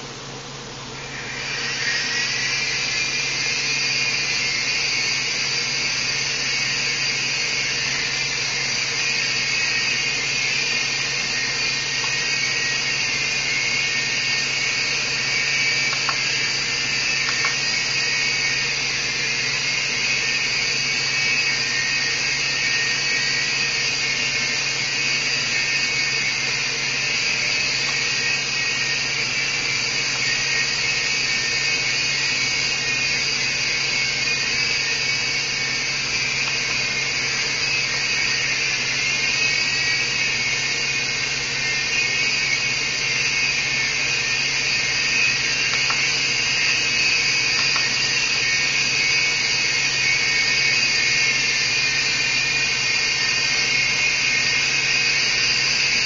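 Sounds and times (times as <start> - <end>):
toy helicopter rotors whirring: 1.0 - 56.0.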